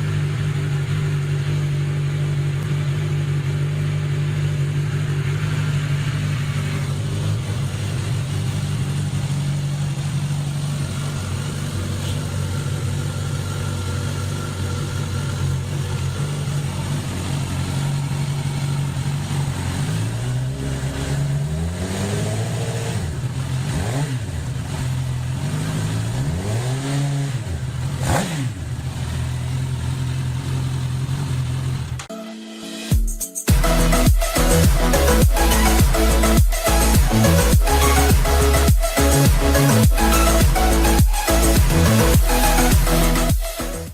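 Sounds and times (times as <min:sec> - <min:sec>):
motorcycle engine idling and revving: 0:00.0 - 0:32.1, 0:33.5 - 0:43.9.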